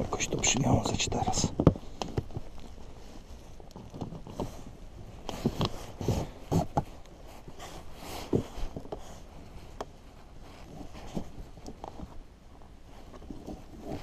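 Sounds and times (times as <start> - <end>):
hands rustling cord: 0.0 - 14.0.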